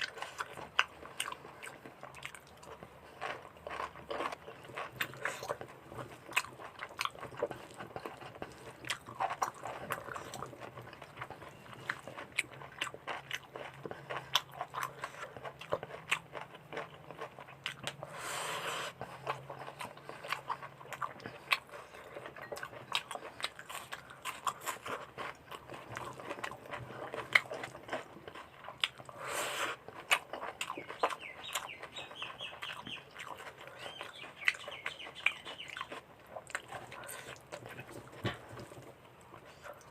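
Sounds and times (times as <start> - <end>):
wet chewing and lip-smacking: 0.0 - 39.9.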